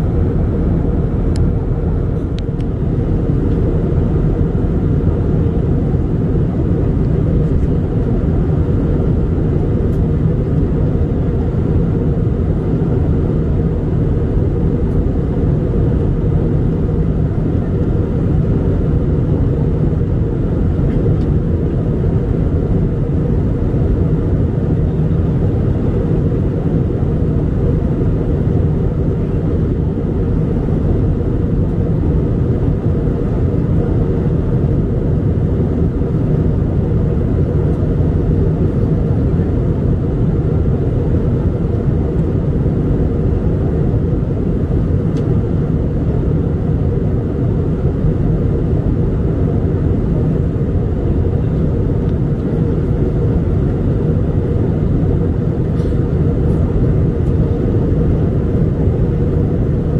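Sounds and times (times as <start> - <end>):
airliner cabin noise: 0.0 - 59.9.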